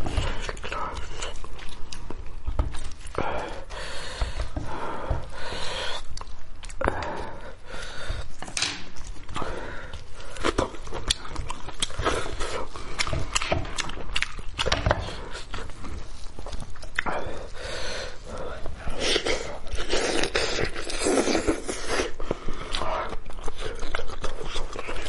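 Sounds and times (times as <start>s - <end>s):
chewing and lip-smacking: 0.0s - 3.6s, 5.9s - 7.2s, 7.8s - 25.0s.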